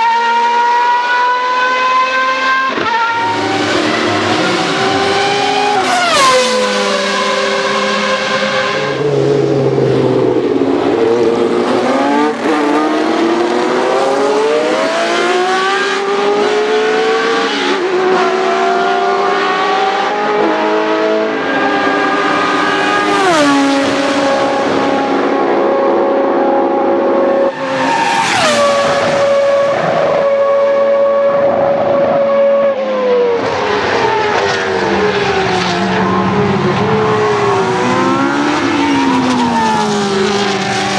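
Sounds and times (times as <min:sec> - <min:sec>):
racing car engines passing: 0:00.0 - 0:40.9.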